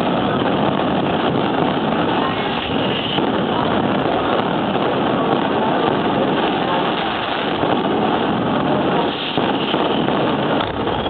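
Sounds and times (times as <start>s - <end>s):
fireworks shell bursts rumbling: 0.0s - 11.0s.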